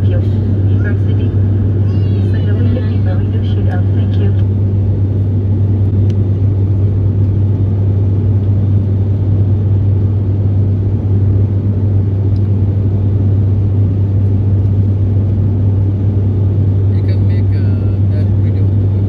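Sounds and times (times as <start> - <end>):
airplane cabin propeller drone: 0.0 - 19.0.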